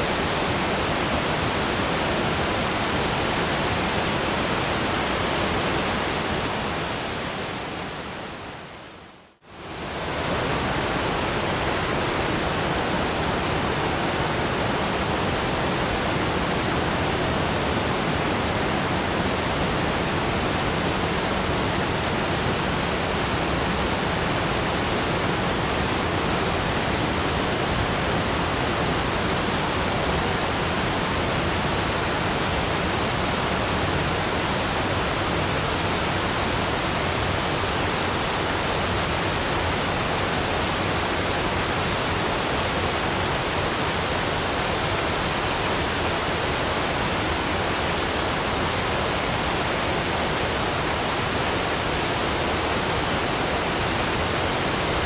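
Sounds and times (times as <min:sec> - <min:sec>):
waterfall rushing: 0:09.6 - 0:55.0.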